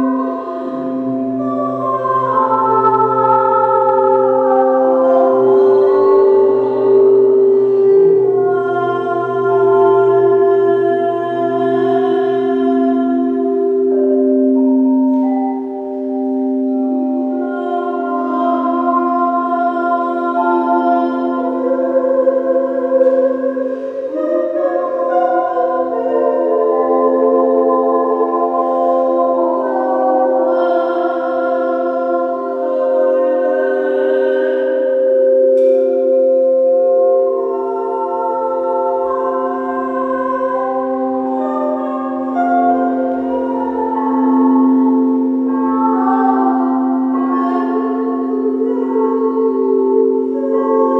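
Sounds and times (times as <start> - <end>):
crystal singing bowls ringing: 0.0 - 50.9.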